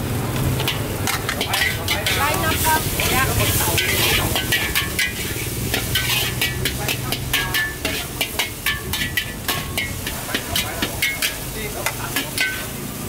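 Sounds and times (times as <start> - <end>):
food sizzling: 0.0 - 13.0
metal spatula scraping wok: 0.4 - 13.0.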